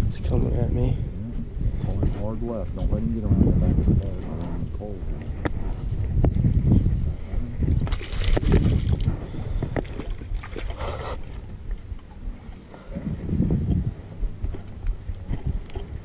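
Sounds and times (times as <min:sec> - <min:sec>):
wind buffeting microphone: 0:00.0 - 0:16.0
water lapping at boat hull: 0:01.1 - 0:16.0.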